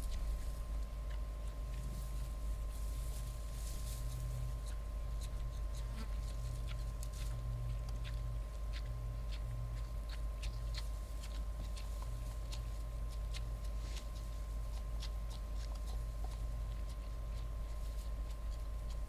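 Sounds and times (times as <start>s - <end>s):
steady low rumble: 0.0s - 19.0s
warthogs crunching food: 0.0s - 19.0s.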